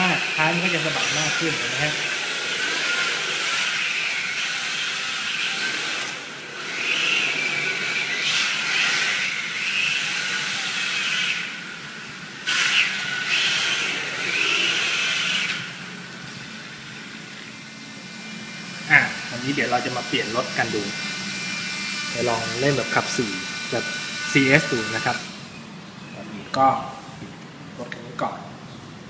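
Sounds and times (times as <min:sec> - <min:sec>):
rc car motor whine: 0:00.0 - 0:27.2.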